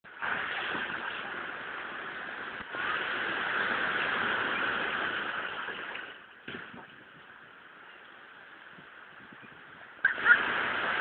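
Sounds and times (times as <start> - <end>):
ocean surf rushing: 0.1 - 9.3, 9.9 - 11.0.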